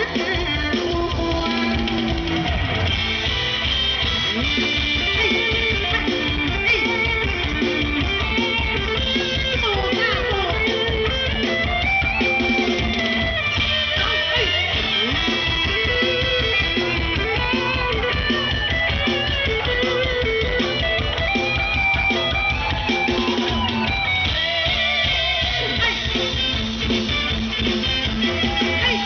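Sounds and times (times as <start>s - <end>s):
drum kit beat: 0.0s - 29.0s
plucked guitar melody: 2.4s - 29.0s.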